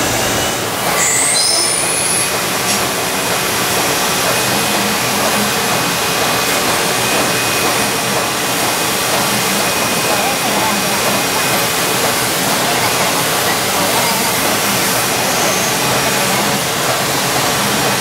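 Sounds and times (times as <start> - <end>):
lathe machining metal: 0.0 - 18.0.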